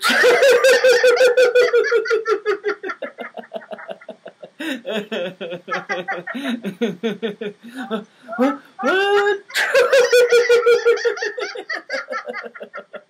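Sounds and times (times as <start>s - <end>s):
high-pitched laugh: 0.0s - 13.0s
lower laugh: 0.0s - 13.0s.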